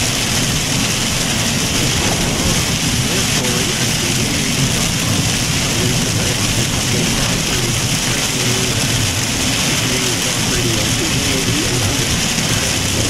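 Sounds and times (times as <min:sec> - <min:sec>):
heavy rain on car roof: 0:00.0 - 0:13.0.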